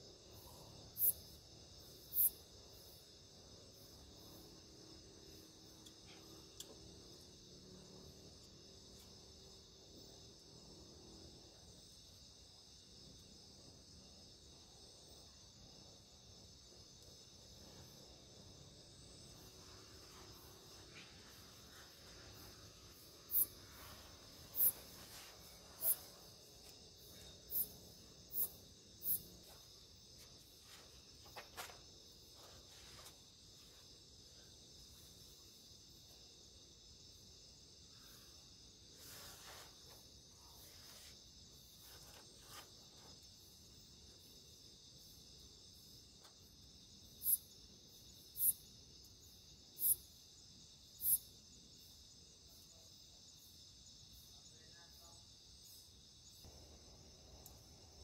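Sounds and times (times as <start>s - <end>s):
crickets droning: 0.0s - 58.0s.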